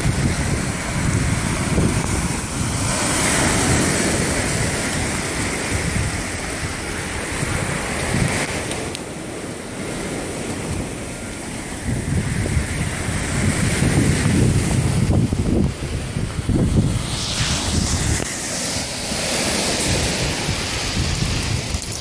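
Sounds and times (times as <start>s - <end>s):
waves surging: 0.0s - 22.0s
wind buffeting microphone: 0.0s - 22.0s.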